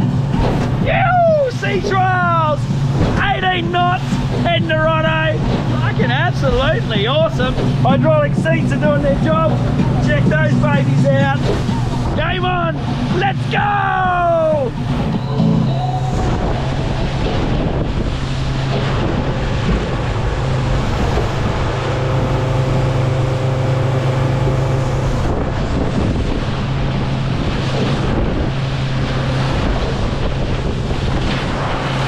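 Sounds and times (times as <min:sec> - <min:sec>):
hull rushing through water: 0:00.0 - 0:32.0
motorboat engine drone: 0:00.0 - 0:32.0
wind buffeting microphone: 0:00.0 - 0:32.0.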